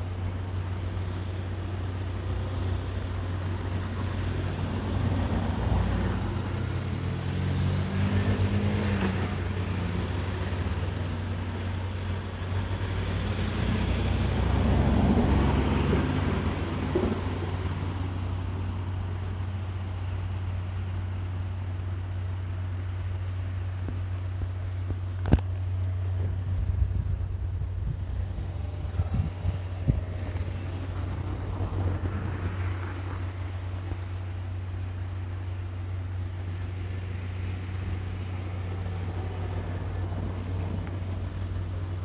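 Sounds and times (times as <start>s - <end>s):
train rumbling: 0.0s - 22.3s, 24.7s - 42.0s
train engine hum: 0.0s - 42.0s.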